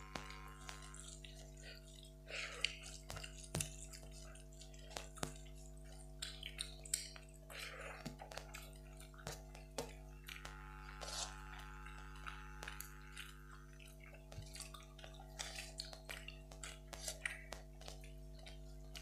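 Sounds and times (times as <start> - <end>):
steady multi-tone hum: 0.0 - 19.0
wet chewing and lip smacks: 0.2 - 11.0, 11.8 - 19.0.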